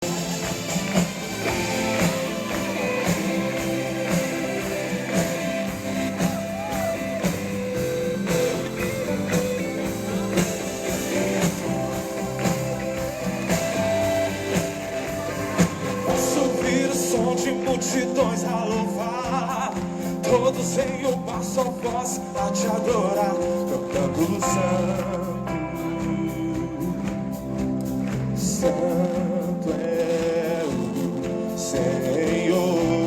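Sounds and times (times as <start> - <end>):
drums: 0.0 - 33.0
guitar: 0.0 - 33.0.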